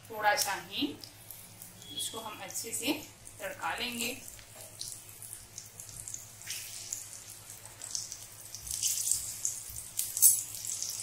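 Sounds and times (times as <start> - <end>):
chillies sizzling in hot oil: 0.0 - 11.0.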